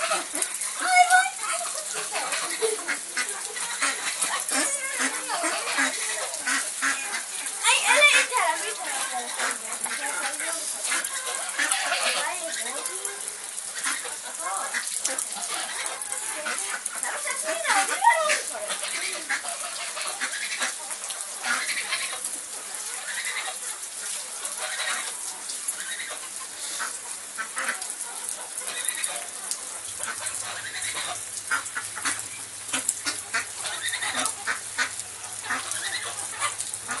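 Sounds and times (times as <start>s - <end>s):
ducks quacking: 0.0s - 37.0s
rain pattering: 0.0s - 37.0s.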